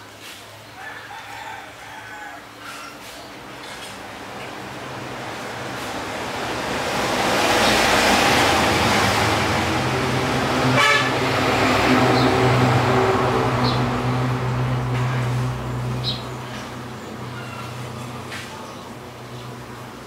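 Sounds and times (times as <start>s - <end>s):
vehicle engine hum: 3.1s - 20.0s.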